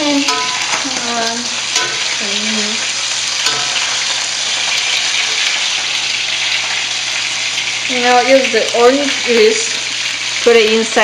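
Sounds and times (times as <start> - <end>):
chicken sizzling in a wok: 0.0 - 11.0.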